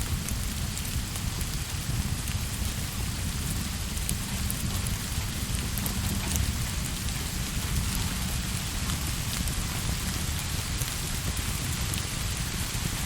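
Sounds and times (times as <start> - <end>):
sharp ticks of raindrops: 0.0 - 13.0
steady rain: 0.0 - 13.0.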